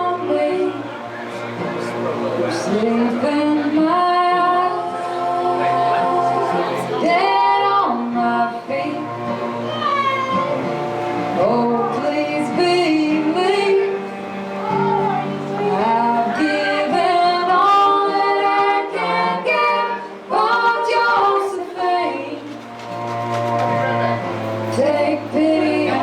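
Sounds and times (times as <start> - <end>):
women singing: 0.0 - 1.0, 2.5 - 26.0
folk string band playing: 0.0 - 26.0.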